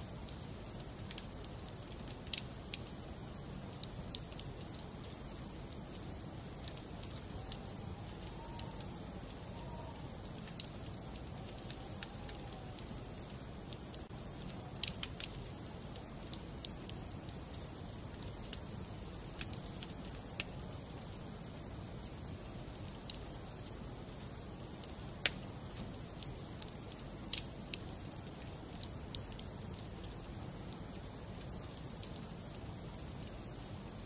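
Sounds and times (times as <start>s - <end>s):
flames rumbling: 0.0s - 34.0s
logs crackling and popping: 0.0s - 34.0s.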